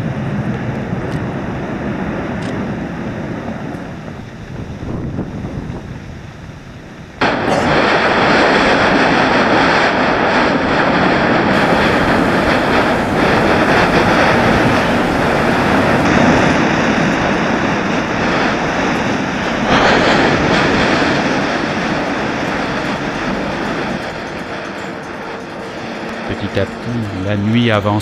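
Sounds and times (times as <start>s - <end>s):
volcanic eruption roaring: 0.0s - 28.0s.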